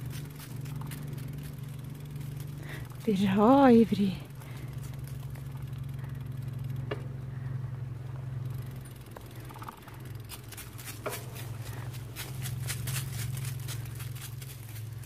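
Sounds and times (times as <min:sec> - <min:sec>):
bicycle rolling on pavement: 0:00.0 - 0:15.0
bicycle ticking: 0:00.0 - 0:15.0.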